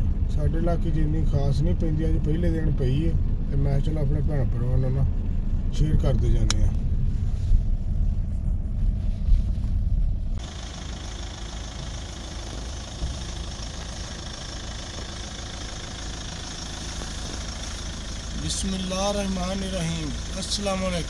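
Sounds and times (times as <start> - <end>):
car engine idling: 0.0 - 21.0
engine and tyre rumble: 0.0 - 21.0.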